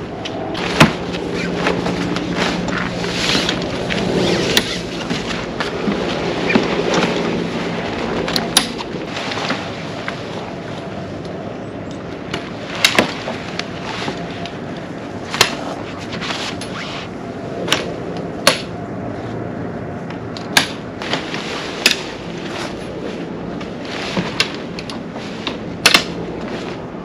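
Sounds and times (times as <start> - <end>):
steady background noise: 0.0 - 27.0.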